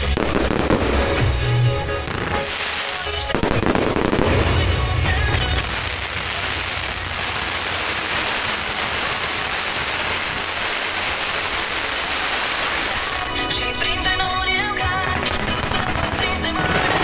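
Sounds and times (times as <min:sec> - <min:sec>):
firecrackers crackling: 0:00.0 - 0:17.0
music: 0:00.0 - 0:17.0.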